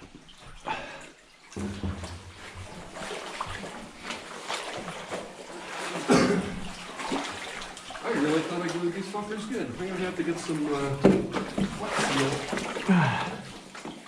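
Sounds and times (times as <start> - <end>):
water sloshing from wading: 0.0 - 14.0.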